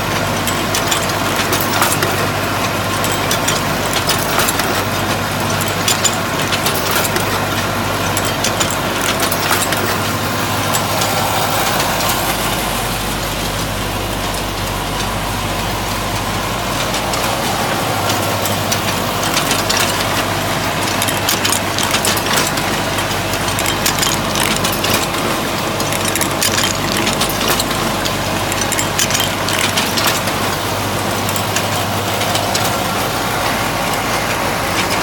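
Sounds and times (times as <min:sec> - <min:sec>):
metallic clatter of machine: 0:00.0 - 0:12.6, 0:16.4 - 0:35.0.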